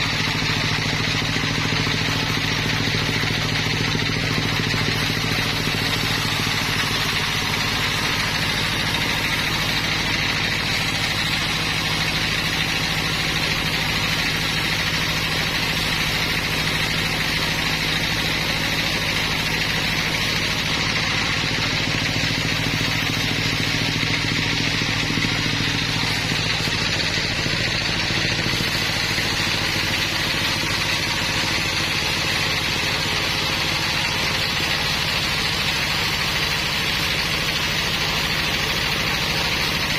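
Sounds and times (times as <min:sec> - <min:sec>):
high machine whine: 0:00.0 - 0:39.9
sawmill engine hum: 0:00.0 - 0:39.9.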